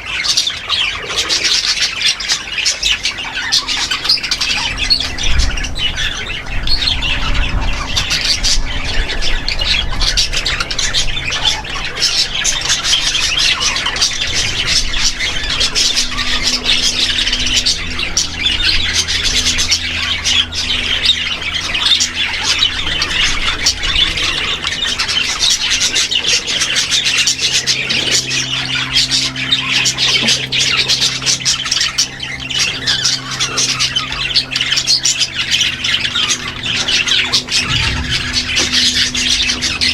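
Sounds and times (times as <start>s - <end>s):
parrots chattering and squawking: 0.0s - 39.9s.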